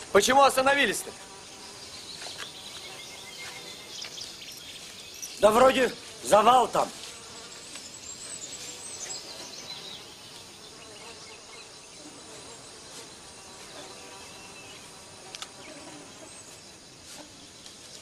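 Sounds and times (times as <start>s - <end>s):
insects buzzing and chirping: 0.0s - 18.0s.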